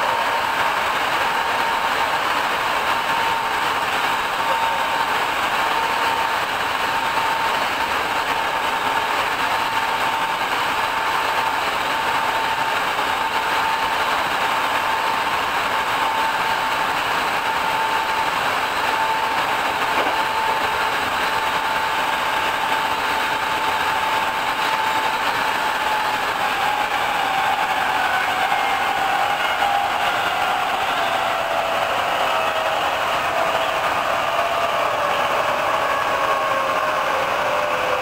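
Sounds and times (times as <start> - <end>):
traction motor whine: 0.0 - 38.0
train wheels roaring on rail: 0.0 - 38.0.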